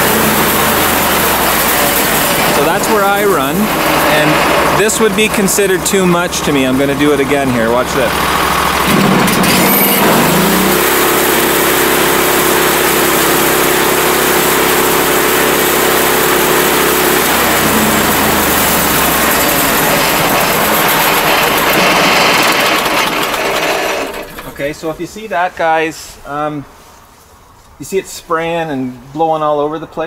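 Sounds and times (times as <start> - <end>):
bandsaw mill engine revving: 0.0 - 24.8.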